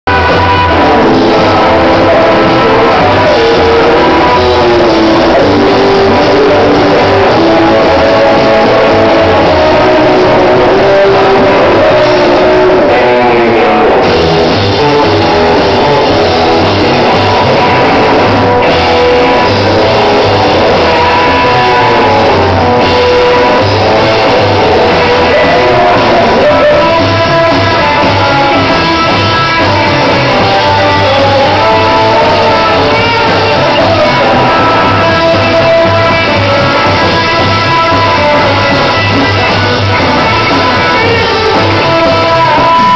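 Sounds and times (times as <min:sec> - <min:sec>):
electric guitar: 0:00.0 - 0:42.9
drum kit: 0:00.1 - 0:42.9
shouted singing: 0:00.1 - 0:42.9.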